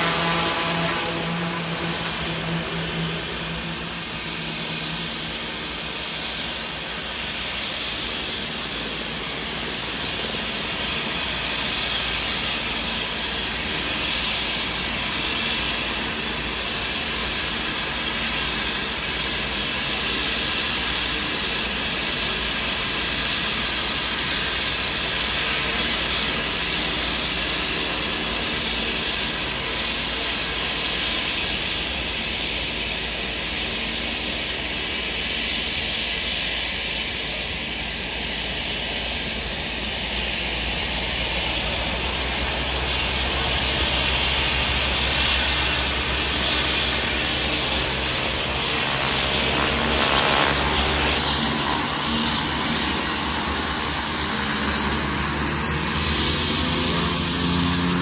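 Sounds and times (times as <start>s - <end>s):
turboprop plane engines: 0.0s - 58.0s.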